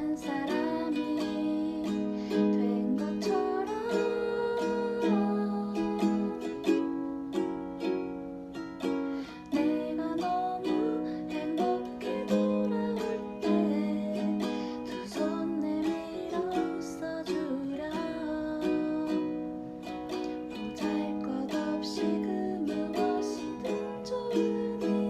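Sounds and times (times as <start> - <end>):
person singing: 0.0 - 8.1, 8.8 - 25.0
ukulele strumming: 0.0 - 25.0.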